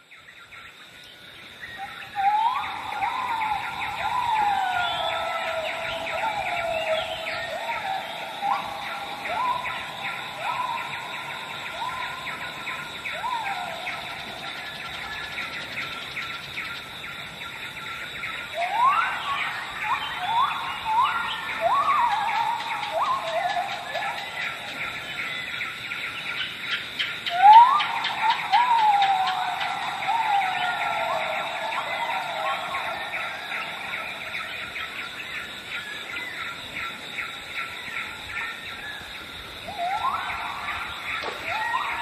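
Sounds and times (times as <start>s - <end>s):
birds whistling swooping calls: 1.7s - 42.0s.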